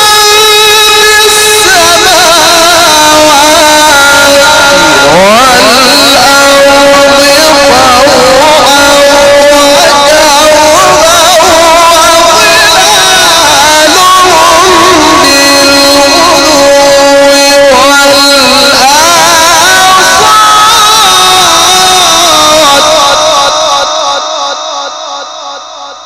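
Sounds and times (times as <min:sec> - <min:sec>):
man chanting melodically: 0:00.0 - 0:26.0.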